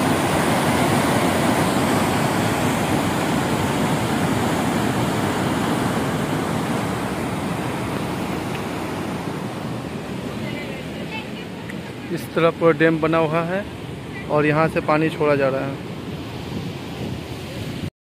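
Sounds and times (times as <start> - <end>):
floodwater rushing below dam: 0.0 - 17.9.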